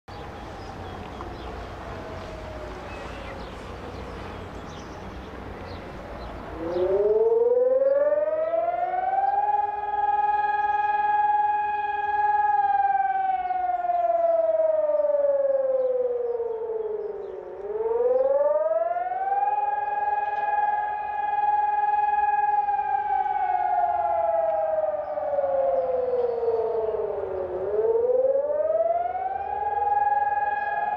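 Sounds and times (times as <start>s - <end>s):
steady background noise: 0.1s - 30.9s
warning siren: 0.1s - 30.9s.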